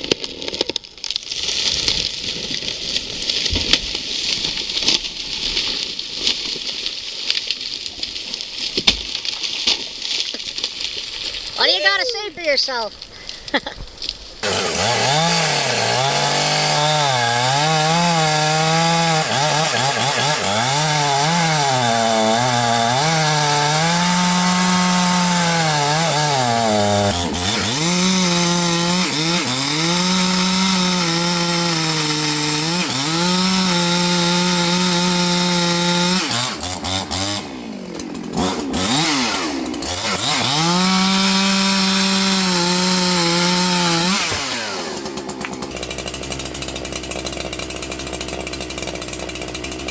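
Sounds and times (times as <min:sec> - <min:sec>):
chainsaw cutting wood: 0:00.0 - 0:12.0, 0:14.0 - 0:49.9.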